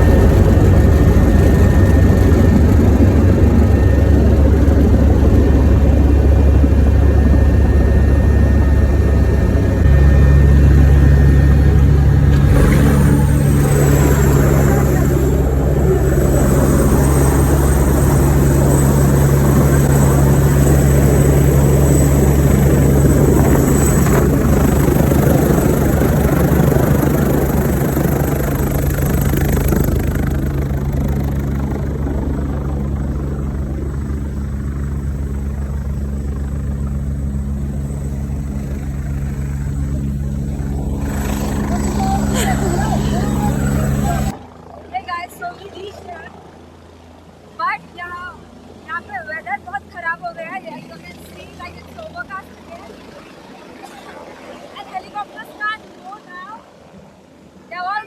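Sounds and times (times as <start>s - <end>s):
high turbine whine: 0.0s - 47.3s
helicopter engine and rotor drone: 0.0s - 58.0s.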